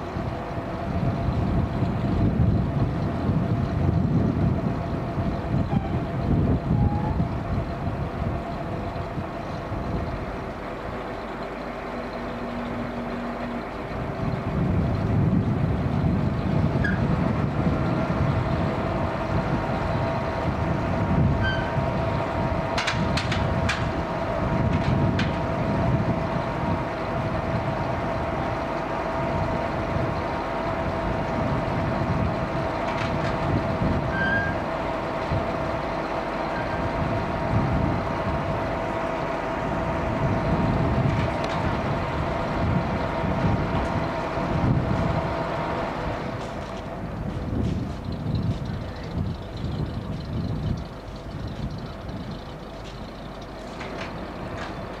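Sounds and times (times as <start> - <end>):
engine low rumble with whine: 0.0 - 55.0.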